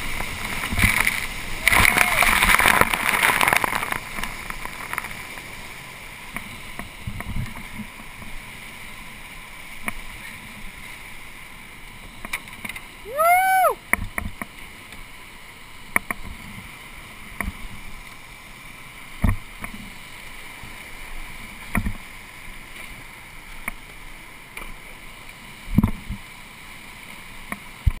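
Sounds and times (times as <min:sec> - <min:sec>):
whitewater rapids rushing: 0:00.0 - 0:27.8.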